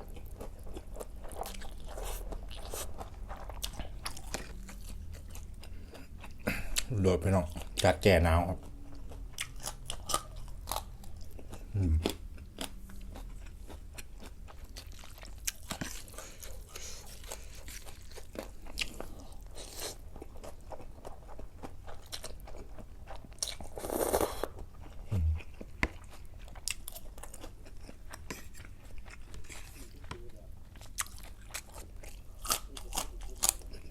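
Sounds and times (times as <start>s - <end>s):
chewing and crunching food: 0.0s - 33.9s.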